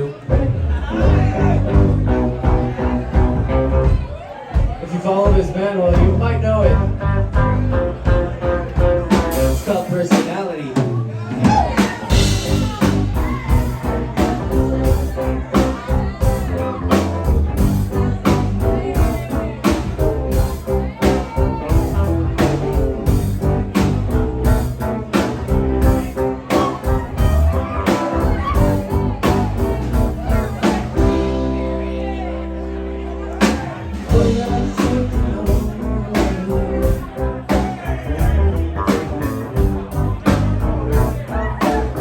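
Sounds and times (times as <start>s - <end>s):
drum kit beat: 0.0s - 31.9s, 33.4s - 42.0s
held guitar and bass notes: 0.0s - 42.0s
rock band playing: 0.0s - 42.0s.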